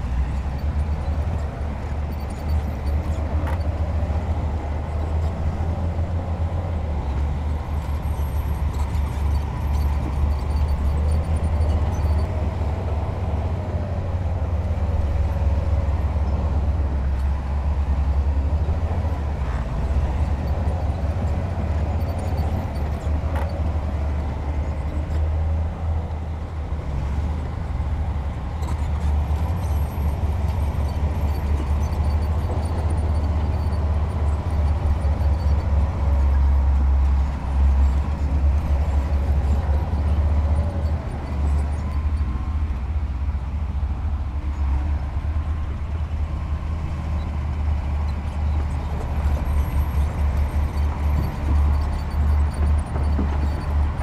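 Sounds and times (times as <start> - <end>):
heavy diesel machinery rumbling: 0.0 - 54.0.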